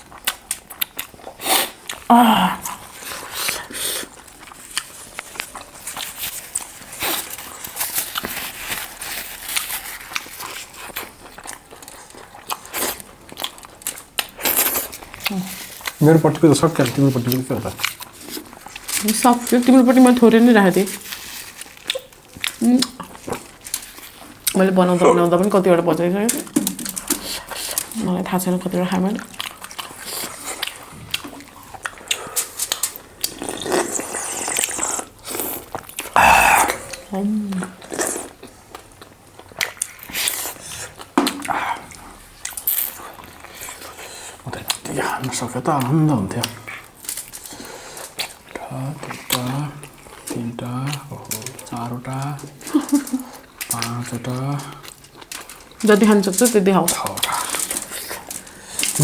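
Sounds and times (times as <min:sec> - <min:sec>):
biting and chewing: 0:00.0 - 0:25.6, 0:26.3 - 0:59.0
food crunch: 0:00.0 - 0:59.0.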